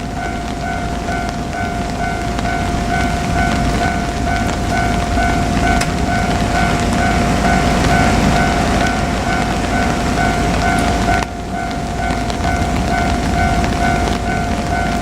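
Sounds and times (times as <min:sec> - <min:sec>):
electric train rumbling past: 0:00.0 - 0:15.0
level-crossing warning bell: 0:00.0 - 0:15.0.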